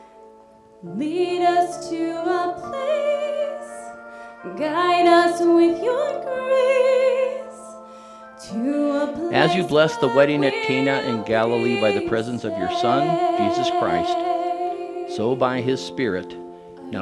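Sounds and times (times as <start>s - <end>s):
held accompaniment chords: 0.0s - 17.0s
woman singing into microphone: 0.8s - 7.8s, 8.4s - 15.1s.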